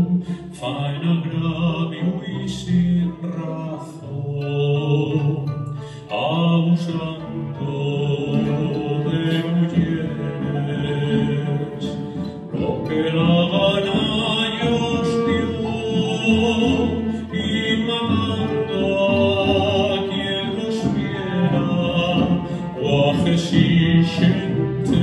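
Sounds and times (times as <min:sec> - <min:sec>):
plucked strings: 0:00.0 - 0:25.0
string orchestra: 0:00.0 - 0:25.0.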